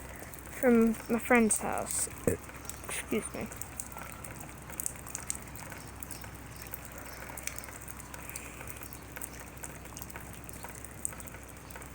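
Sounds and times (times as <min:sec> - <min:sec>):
rain drops pattering: 0:00.0 - 0:11.9.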